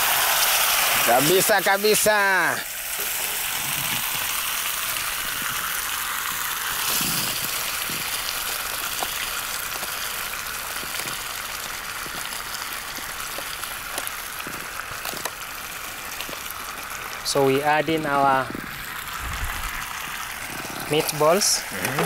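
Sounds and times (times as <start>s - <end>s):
sauce sizzling in a frying pan: 0.0s - 22.0s.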